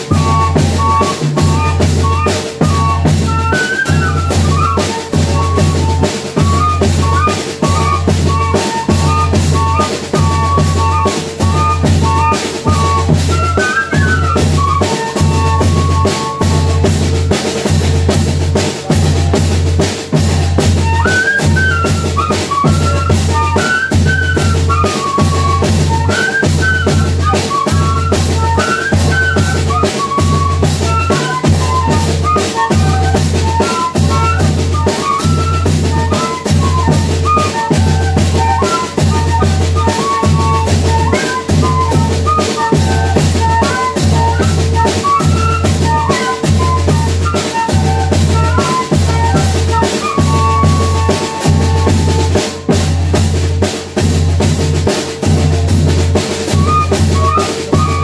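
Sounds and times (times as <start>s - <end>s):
snare drum: 0.0s - 58.0s.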